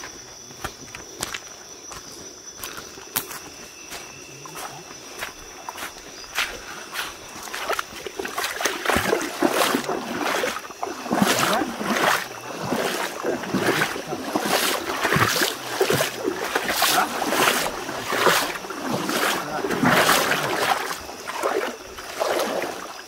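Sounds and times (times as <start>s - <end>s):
water sloshing and splashing: 4.5s - 23.0s.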